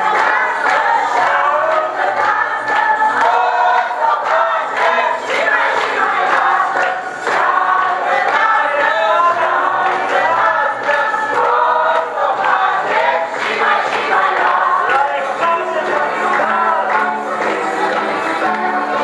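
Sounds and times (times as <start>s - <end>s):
group singing loudly: 0.0s - 19.0s.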